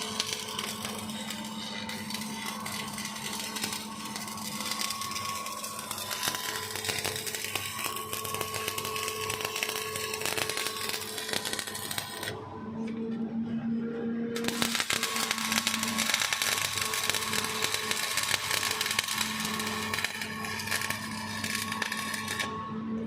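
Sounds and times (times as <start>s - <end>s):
welding arc crackling: 0.0s - 12.4s, 14.4s - 22.5s.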